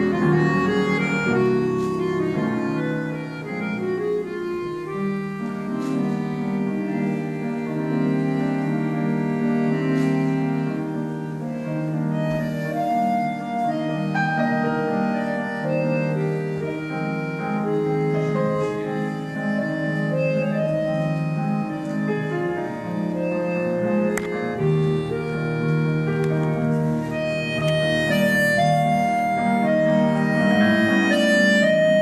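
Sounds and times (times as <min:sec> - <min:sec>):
accordion: 0:00.0 - 0:32.0
grand piano playing: 0:00.0 - 0:32.0.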